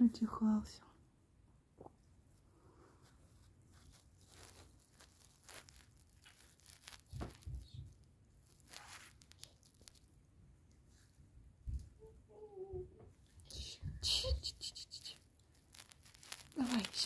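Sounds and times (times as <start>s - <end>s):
faint rustling: 1.8s - 17.0s.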